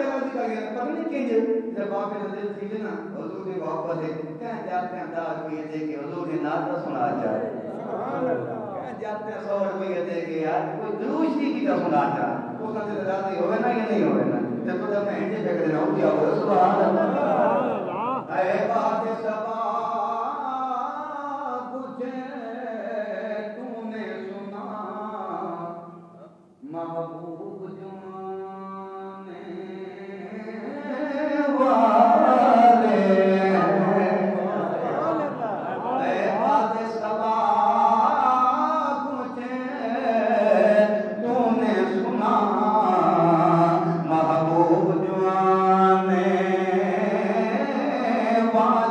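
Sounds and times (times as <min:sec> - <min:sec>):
man chanting into a microphone: 0:00.0 - 0:48.9.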